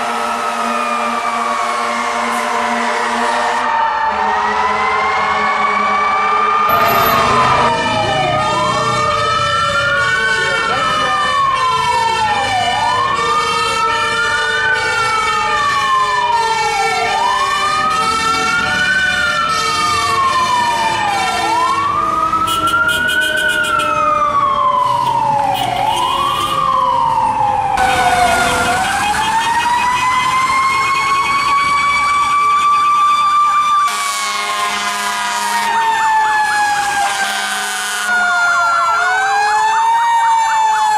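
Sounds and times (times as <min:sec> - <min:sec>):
fire truck siren wailing: 0:00.0 - 0:40.9
siren long falling whine: 0:00.0 - 0:40.9.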